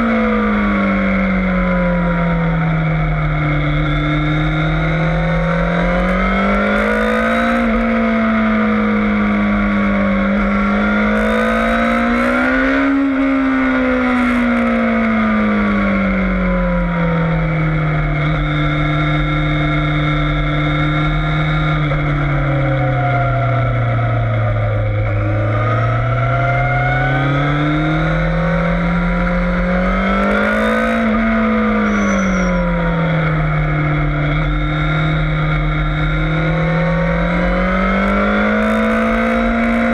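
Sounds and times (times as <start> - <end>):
motorcycle engine on race track: 0.0 - 39.9.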